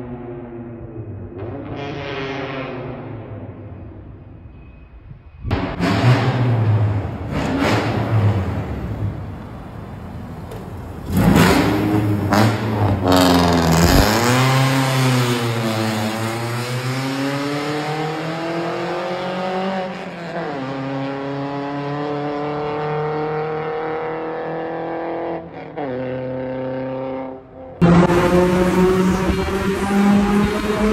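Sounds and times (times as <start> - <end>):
car engine revving: 5.5 - 30.9.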